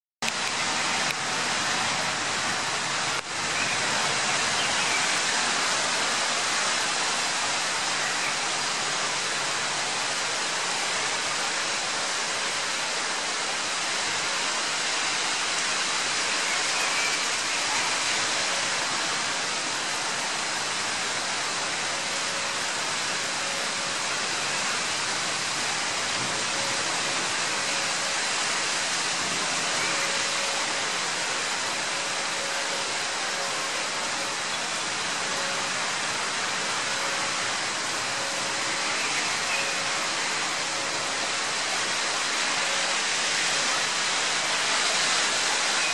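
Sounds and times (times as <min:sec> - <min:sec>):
heavy rain pouring: 0:00.2 - 0:45.9.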